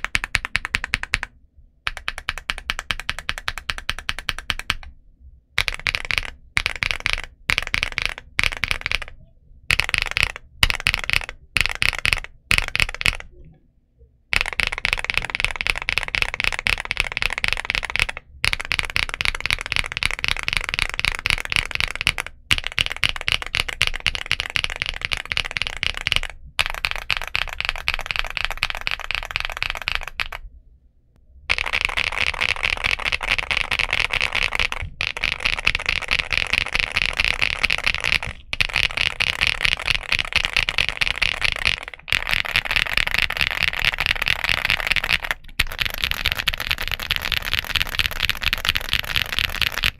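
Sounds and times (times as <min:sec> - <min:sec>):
fast typing on mechanical keyboard: 0:00.0 - 0:01.3, 0:01.9 - 0:04.9, 0:05.6 - 0:13.3, 0:14.3 - 0:30.4, 0:31.5 - 0:49.9.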